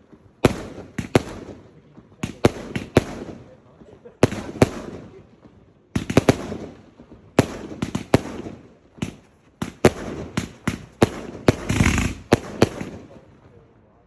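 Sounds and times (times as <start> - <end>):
fireworks bangs: 0.0 - 13.8.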